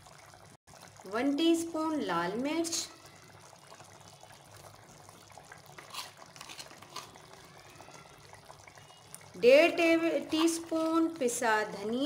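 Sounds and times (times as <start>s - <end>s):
gravy simmering in pot: 0.0s - 12.0s.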